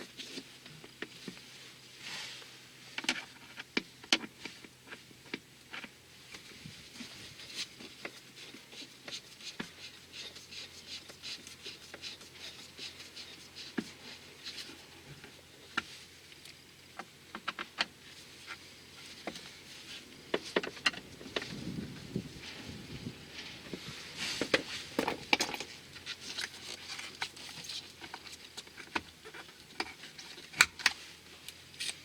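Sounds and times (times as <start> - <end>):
small tools and parts rattling: 3.0 - 22.8, 23.7 - 32.0.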